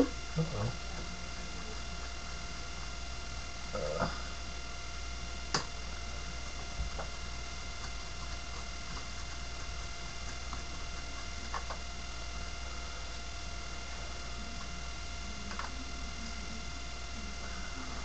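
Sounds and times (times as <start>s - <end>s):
electrical hum and hiss: 0.0s - 18.0s.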